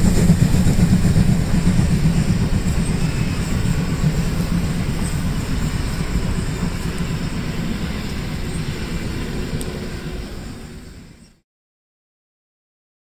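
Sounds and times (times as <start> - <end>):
steam train rumbling past: 0.0 - 11.4.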